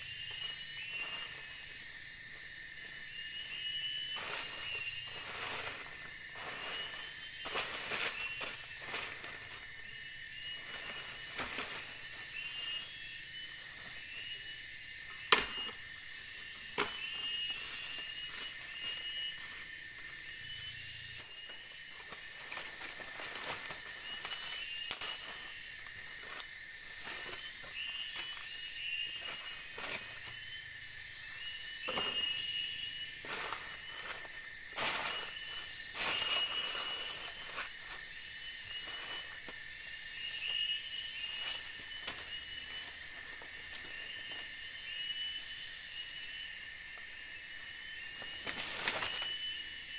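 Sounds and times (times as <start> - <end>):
insects chirping and buzzing: 0.0 - 49.9.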